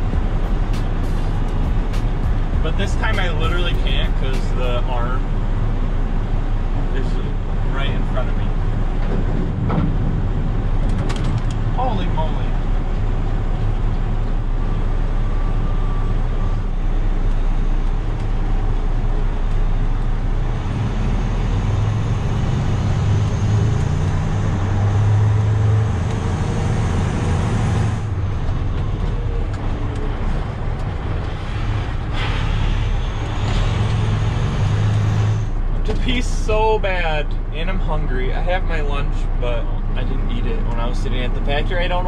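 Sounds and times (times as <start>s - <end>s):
road noise: 0.0s - 42.0s
truck engine running: 0.0s - 42.0s.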